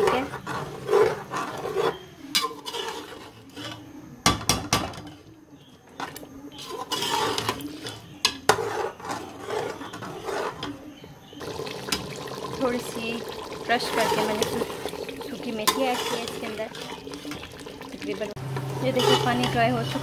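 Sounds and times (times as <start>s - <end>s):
metal spoon scraping pot: 0.0s - 3.9s, 6.0s - 10.8s, 11.5s - 20.0s.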